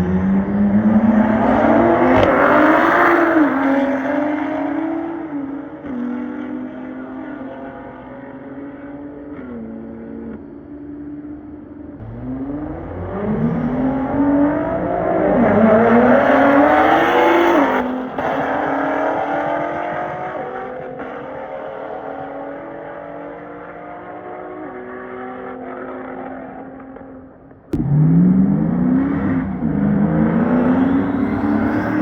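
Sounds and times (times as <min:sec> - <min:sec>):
car engine accelerating hard: 0:00.0 - 0:10.7, 0:11.4 - 0:32.0.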